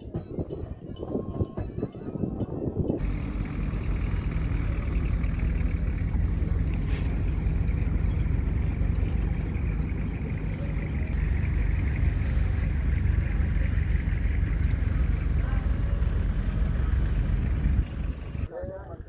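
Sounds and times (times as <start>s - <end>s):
off-road vehicle rumbling on dirt: 0.0s - 19.0s.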